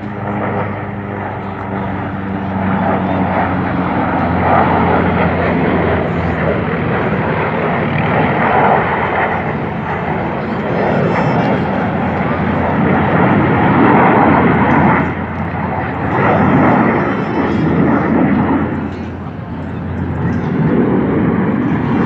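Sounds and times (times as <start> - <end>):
jet engine noise: 0.0 - 22.0
low hum: 0.0 - 22.0.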